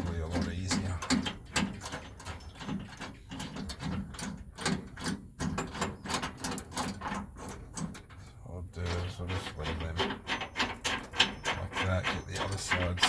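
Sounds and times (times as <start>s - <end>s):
metal bolts and tools clinking: 0.0s - 8.2s, 8.8s - 13.0s.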